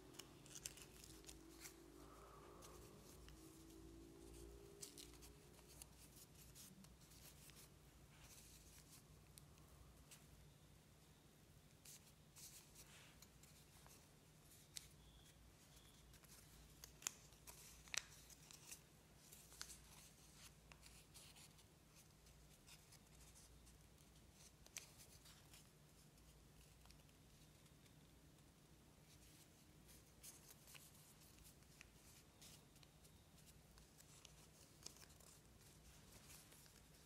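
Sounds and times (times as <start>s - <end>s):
paper crinkling being folded: 0.0s - 10.3s, 11.8s - 27.9s, 29.0s - 37.0s
faint low hum: 0.0s - 37.0s.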